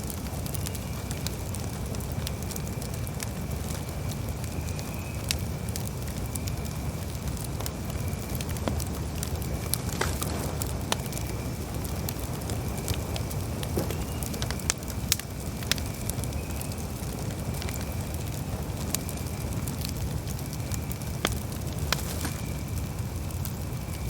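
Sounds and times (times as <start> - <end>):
burning wood popping and snapping: 0.0 - 24.0
low rumble of flames: 0.0 - 24.0.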